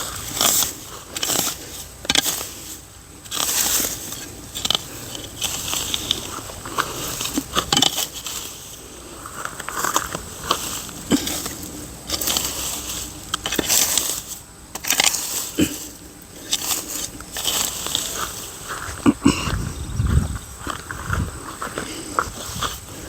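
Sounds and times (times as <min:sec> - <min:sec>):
wood fire crackling: 0:00.0 - 0:19.1.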